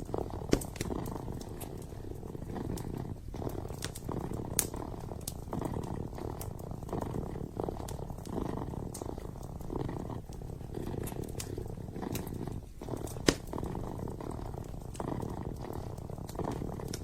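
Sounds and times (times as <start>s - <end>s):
kitten purring: 0.0s - 17.0s
wood fire crackling: 0.0s - 17.0s.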